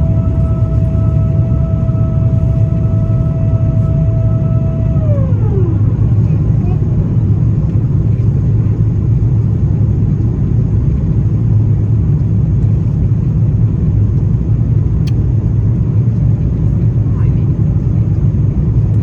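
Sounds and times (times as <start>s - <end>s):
airliner engines rumbling: 0.0s - 19.0s.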